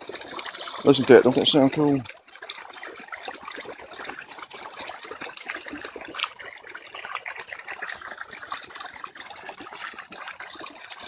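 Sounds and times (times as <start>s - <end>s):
floodwater rushing and splashing: 0.0s - 11.0s.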